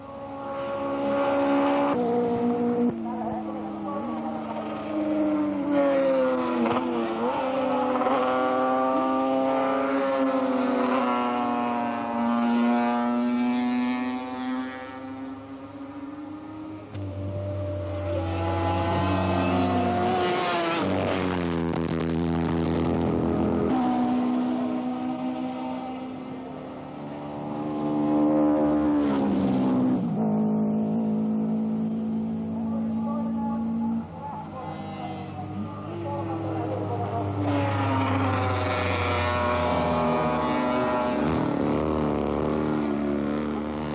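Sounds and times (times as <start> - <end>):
racing motorcycle engines revving: 0.0 - 43.9.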